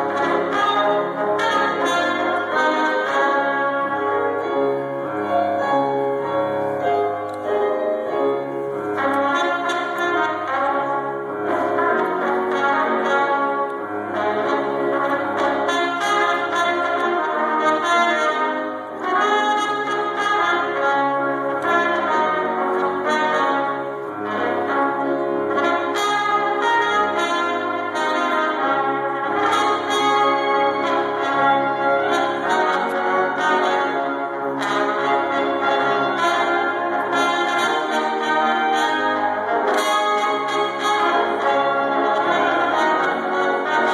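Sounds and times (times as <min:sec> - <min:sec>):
brass group playing: 0:00.0 - 0:43.9.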